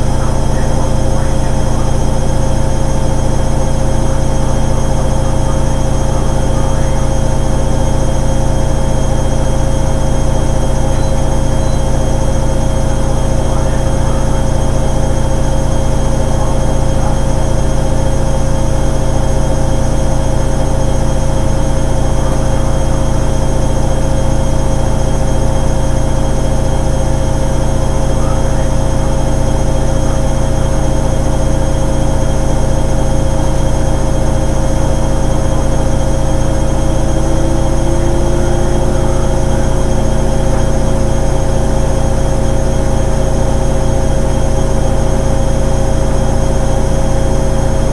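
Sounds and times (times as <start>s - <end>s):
washing machine hum: 0.0s - 47.9s.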